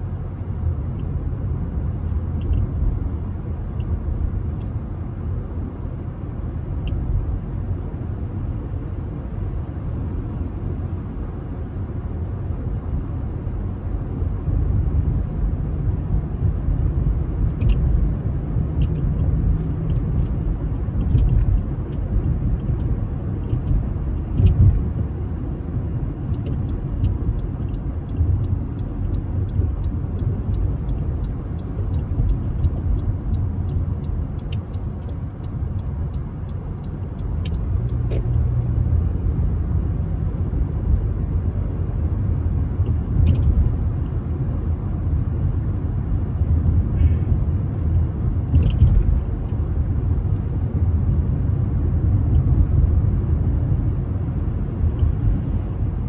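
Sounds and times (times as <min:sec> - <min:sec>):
car driving rumble: 0:00.0 - 0:56.0.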